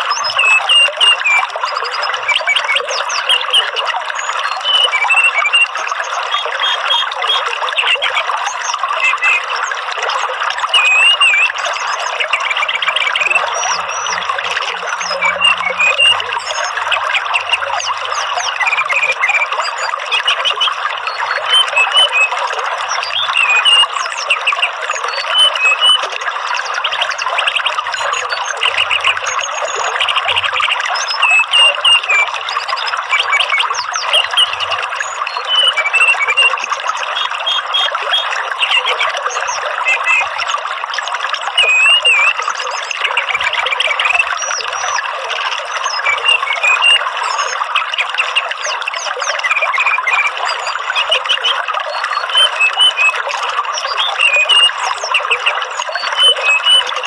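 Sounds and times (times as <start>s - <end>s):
songbird chirping and whistling: 0.0s - 3.7s, 4.5s - 8.0s, 10.7s - 26.1s, 27.4s - 40.4s, 41.5s - 42.4s, 45.8s - 47.6s, 48.2s - 53.2s, 53.8s - 57.0s.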